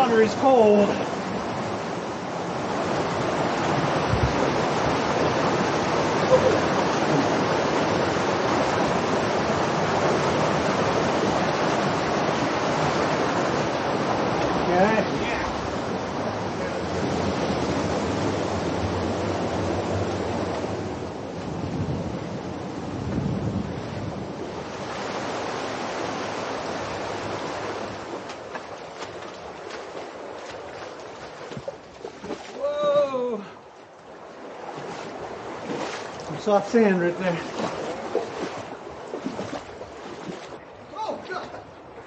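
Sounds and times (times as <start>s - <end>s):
flowing creek water: 0.0s - 21.6s, 24.4s - 42.0s.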